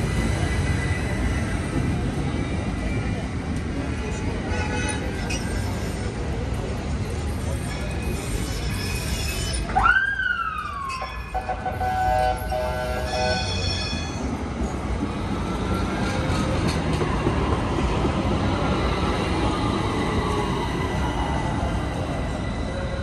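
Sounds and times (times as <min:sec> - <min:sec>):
tram rumble and electric whine: 0:00.0 - 0:23.0.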